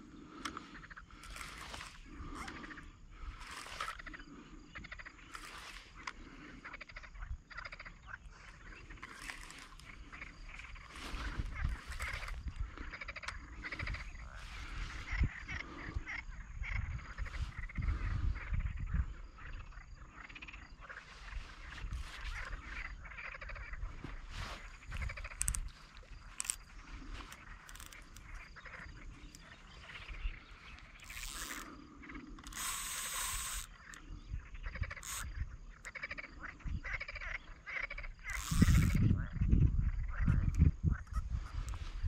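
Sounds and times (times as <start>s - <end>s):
frogs croaking: 0.0s - 42.0s.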